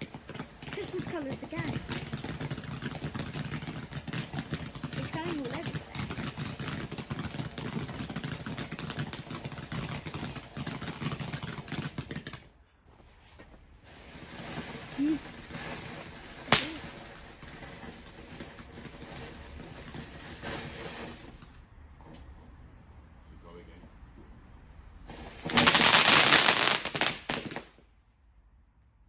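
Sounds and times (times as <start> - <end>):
firework crackling and hissing: 0.0 - 21.8, 24.6 - 27.8.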